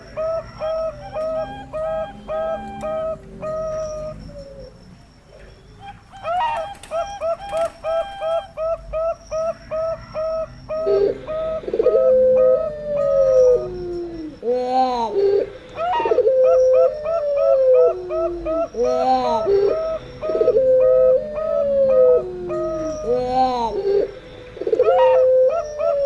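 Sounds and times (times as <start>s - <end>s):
doves cooing: 0.0s - 26.0s
long descending dove coos: 0.0s - 26.0s.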